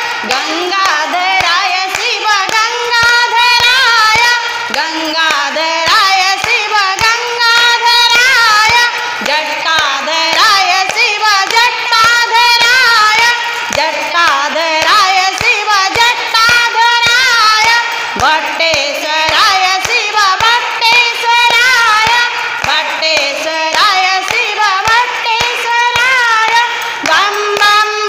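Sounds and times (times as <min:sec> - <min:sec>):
hands clapping a steady beat: 0:00.0 - 0:28.0
women singing a devotional chant: 0:00.0 - 0:28.0.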